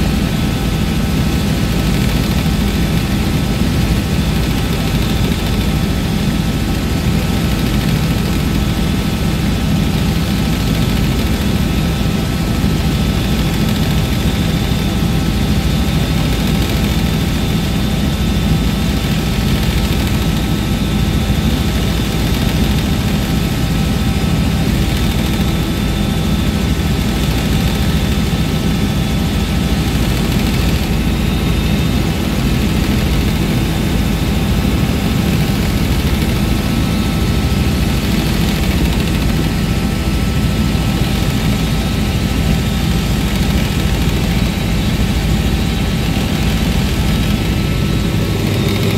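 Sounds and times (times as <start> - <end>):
helicopter engine and rotor drone: 0.0 - 48.9
steady whining tones: 0.0 - 48.9.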